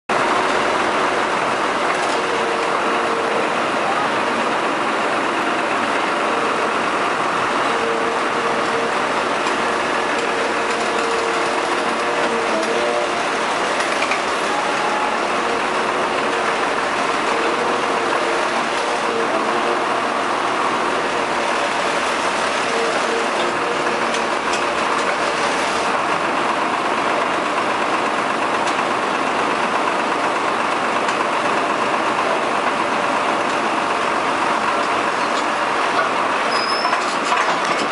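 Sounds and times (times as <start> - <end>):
diesel engine running: 0.1 - 37.9
hydraulic whine: 0.1 - 37.9.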